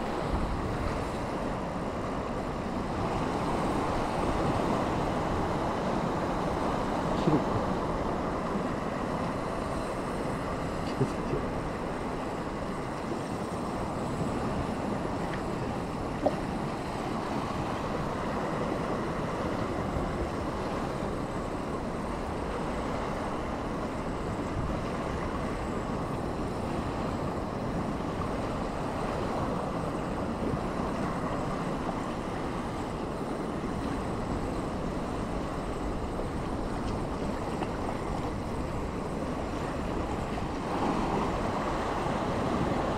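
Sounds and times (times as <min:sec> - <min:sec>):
wind noise on microphone: 0:00.0 - 0:10.8, 0:11.8 - 0:42.9.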